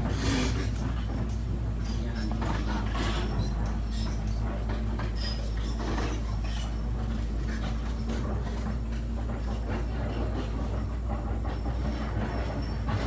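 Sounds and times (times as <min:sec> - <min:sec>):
low machine drone: 0:00.0 - 0:13.0.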